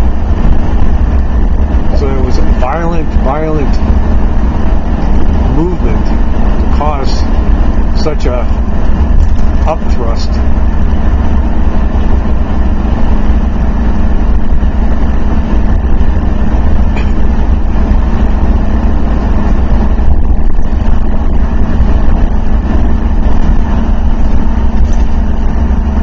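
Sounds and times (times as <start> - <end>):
deep engine drone: 0.0 - 26.0
road and tyre noise: 0.0 - 26.0.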